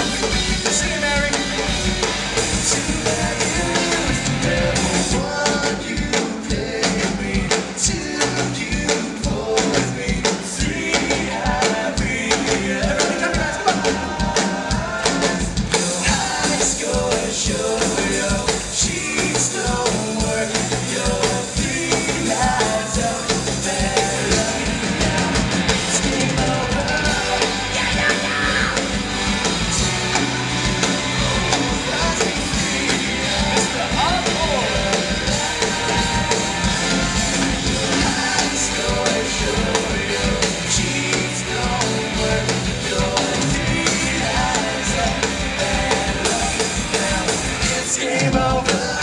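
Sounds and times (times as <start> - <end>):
rock band playing live: 0.0 - 49.0
person singing: 2.5 - 29.0, 29.8 - 49.0.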